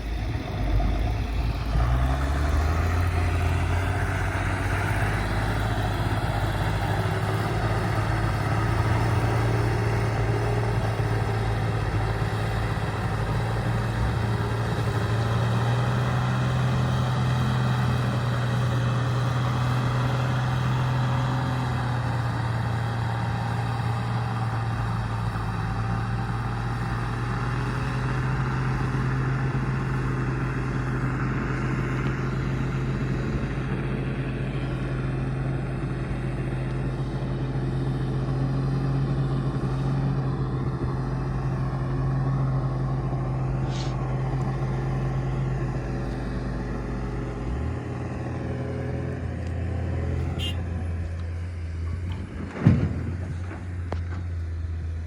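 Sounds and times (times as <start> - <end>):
heavy machinery engine humming: 0.0 - 55.0.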